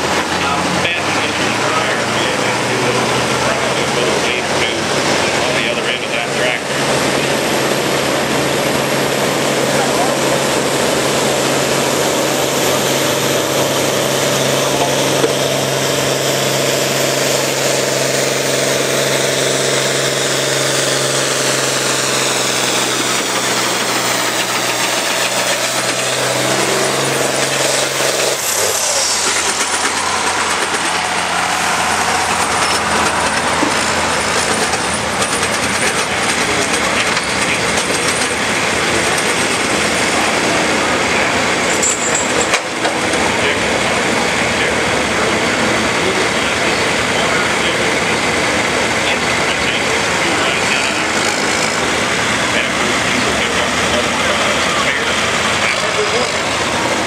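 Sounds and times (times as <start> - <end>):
different engine sound: 0.0 - 57.0
tractor diesel engines running: 0.0 - 57.0.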